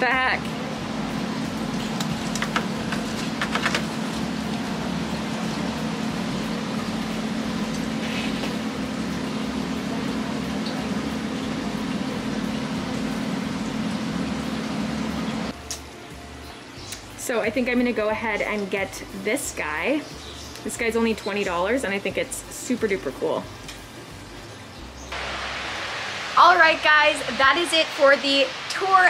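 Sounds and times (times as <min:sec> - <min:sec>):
mechanical hum with hiss: 0:00.0 - 0:29.0.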